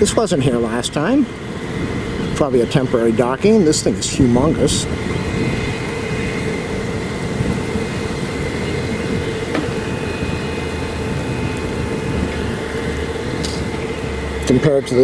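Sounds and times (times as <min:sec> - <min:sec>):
dense rushing noise: 0:00.0 - 0:15.0
mechanical drone with whine: 0:00.0 - 0:15.0.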